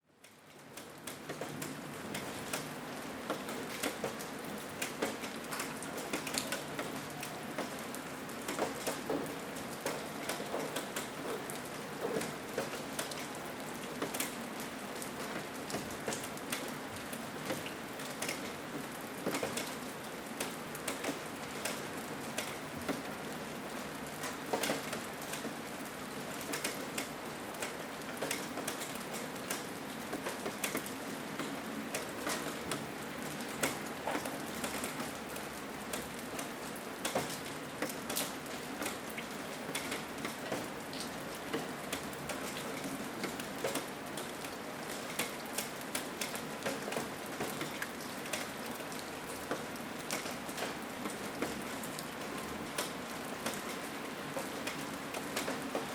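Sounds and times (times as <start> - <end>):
steady rain hiss: 0.2 - 55.9.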